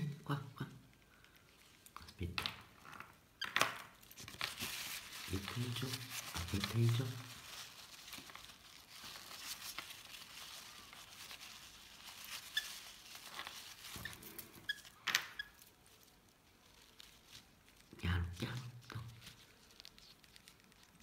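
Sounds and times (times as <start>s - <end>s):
paper towel rustling: 4.0s - 21.0s.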